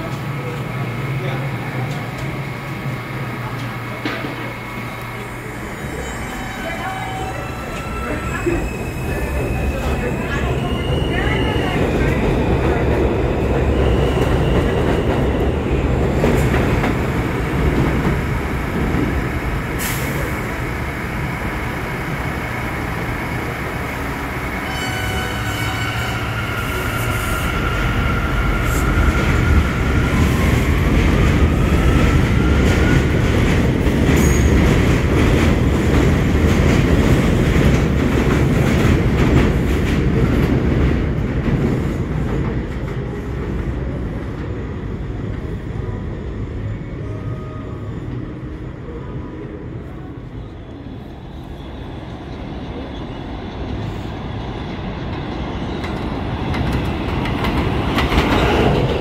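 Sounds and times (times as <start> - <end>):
train rumble: 0.0 - 50.5, 52.5 - 59.0.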